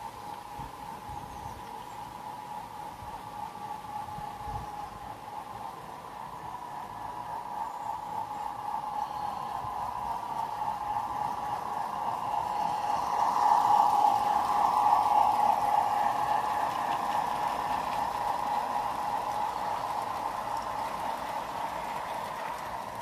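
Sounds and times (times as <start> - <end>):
model train rolling whirr: 0.0 - 23.0.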